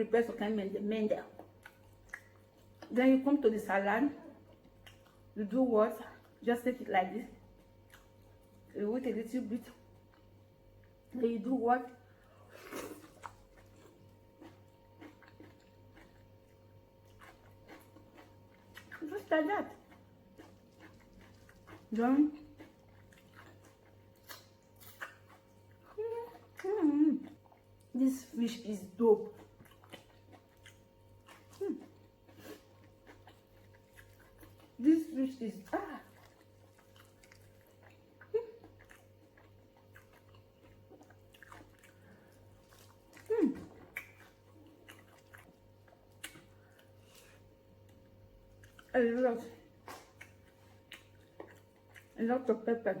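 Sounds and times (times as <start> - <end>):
steady low hum: 0.0 - 53.0
faint chewing and mouth sounds: 0.1 - 53.0.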